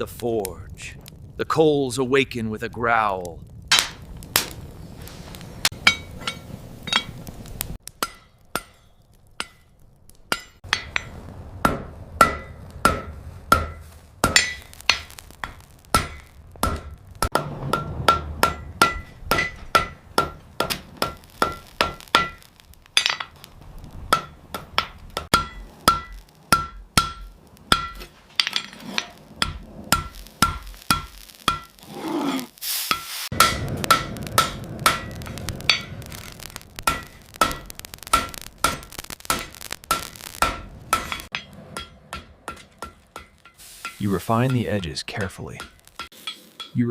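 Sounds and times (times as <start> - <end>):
hammer striking steel on anvil: 5.7 - 7.2, 7.9 - 23.3, 24.1 - 31.8, 32.9 - 36.0, 36.8 - 46.9.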